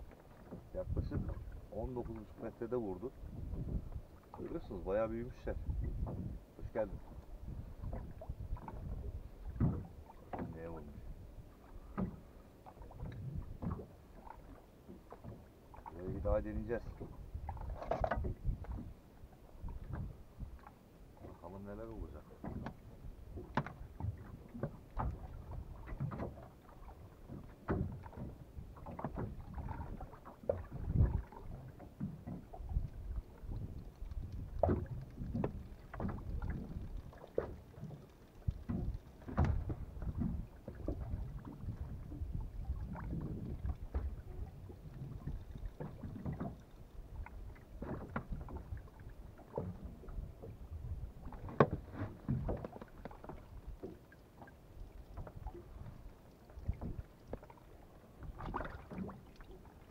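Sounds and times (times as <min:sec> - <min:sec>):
waves slapping against hull: 0:00.0 - 0:59.9.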